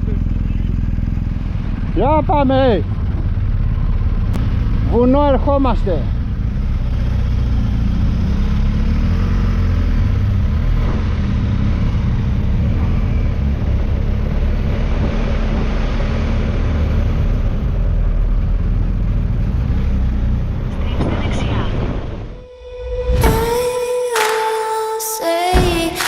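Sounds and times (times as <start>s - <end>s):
motorcycle engine running: 0.0s - 21.0s
road rumble and rushing: 0.0s - 23.6s.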